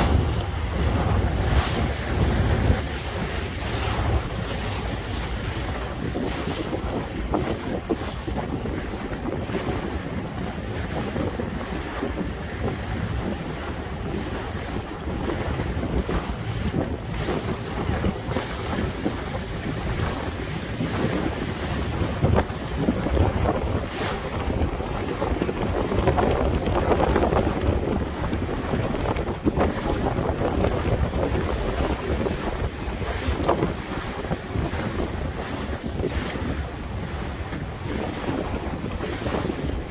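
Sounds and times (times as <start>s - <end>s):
water splashing along boat hull: 0.0s - 39.9s
wind buffeting microphone: 0.0s - 39.9s.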